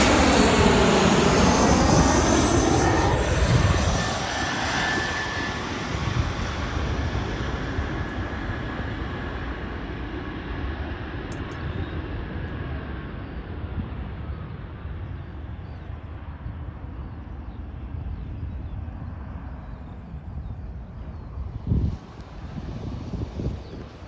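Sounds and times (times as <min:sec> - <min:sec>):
jet airliner engine noise: 0:00.0 - 0:24.0.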